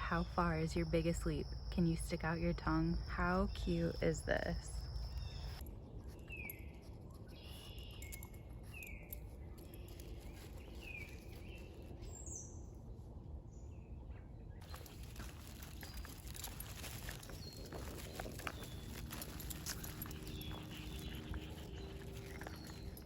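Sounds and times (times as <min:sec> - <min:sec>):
birds chirping: 0:00.0 - 0:12.8, 0:13.5 - 0:23.0.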